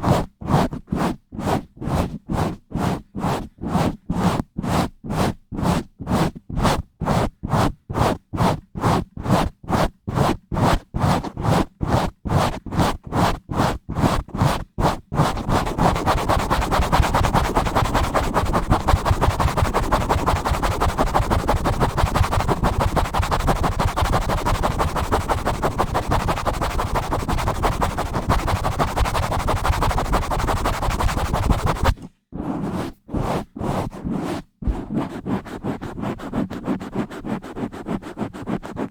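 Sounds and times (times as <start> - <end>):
scratching on a microphone: 0.0 - 38.9.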